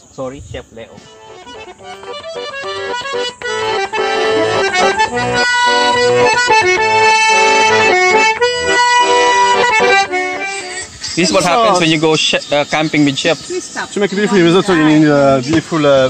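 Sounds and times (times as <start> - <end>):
accordion playing chords: 1.0 - 15.2.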